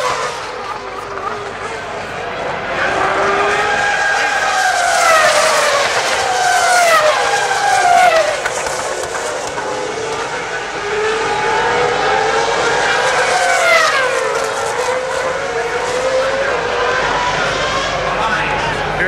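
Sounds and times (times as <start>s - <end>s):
racing car engines at high revs: 0.0s - 19.0s.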